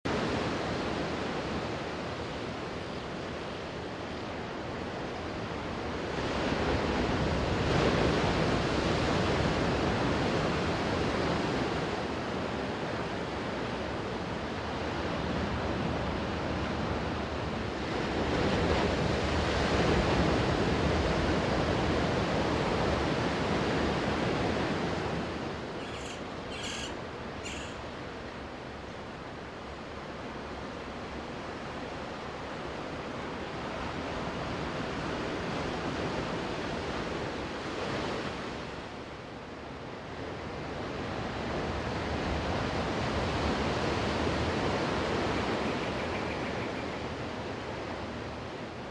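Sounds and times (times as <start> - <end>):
waves washing onto sand: 0.1 - 48.9.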